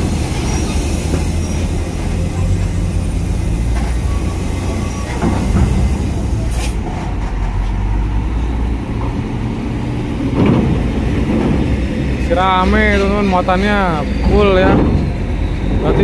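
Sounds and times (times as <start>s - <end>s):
diesel truck engines: 0.0s - 16.0s.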